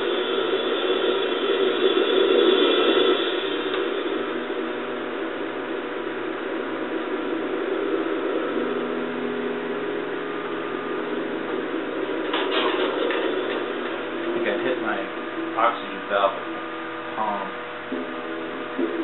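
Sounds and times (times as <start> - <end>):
welding torch flame hissing: 0.0 - 19.0.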